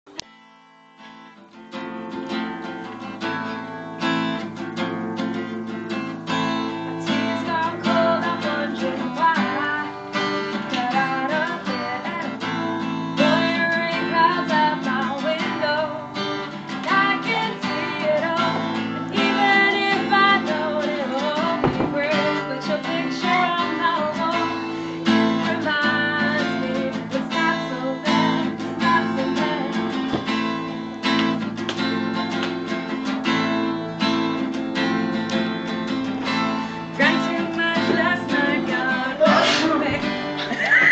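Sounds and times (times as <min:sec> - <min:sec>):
strummed acoustic guitar music: 0:00.1 - 0:40.9.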